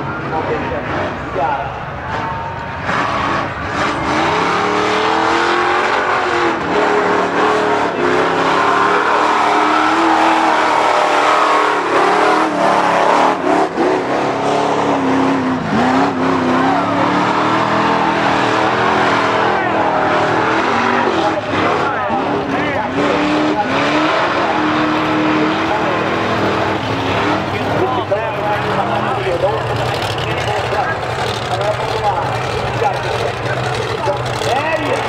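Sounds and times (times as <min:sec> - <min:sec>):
tires churning mud and water: 0:00.0 - 0:35.0
truck engine revving high: 0:00.0 - 0:35.0.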